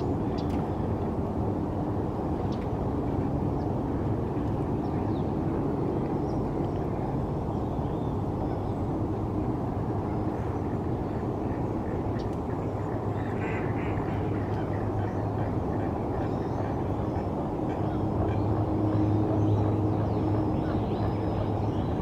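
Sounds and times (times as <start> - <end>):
distant city rumble: 0.0 - 22.0.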